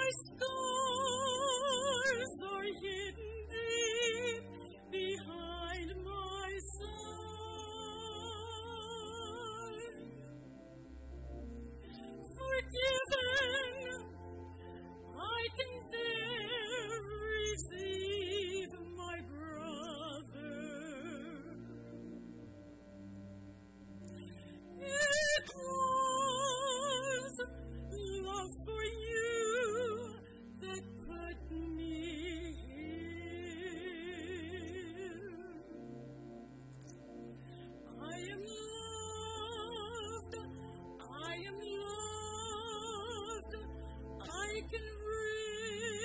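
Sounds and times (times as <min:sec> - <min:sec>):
woman singing with vibrato: 0:00.0 - 0:10.1, 0:12.0 - 0:14.3, 0:15.0 - 0:21.7, 0:24.8 - 0:35.9, 0:37.9 - 0:46.0
sustained chordal accompaniment: 0:00.0 - 0:46.0.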